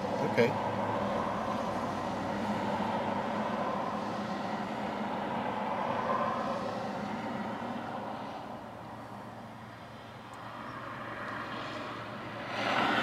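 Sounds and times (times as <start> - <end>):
highway traffic noise: 0.0 - 13.0.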